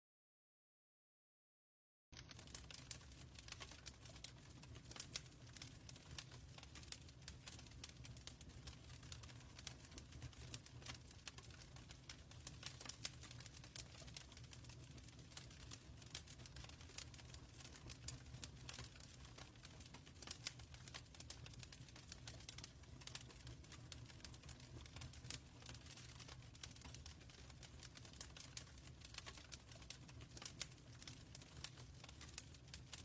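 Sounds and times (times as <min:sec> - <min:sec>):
fire popping and snapping: 0:02.2 - 0:33.0
flames rumbling: 0:02.3 - 0:33.0.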